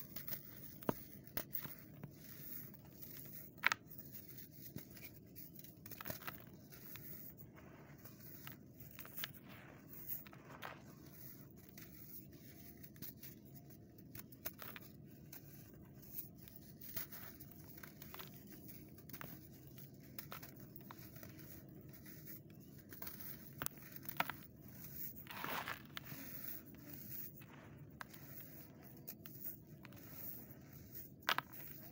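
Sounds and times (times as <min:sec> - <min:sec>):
hands crumbling dry clay: 0:00.0 - 0:31.9.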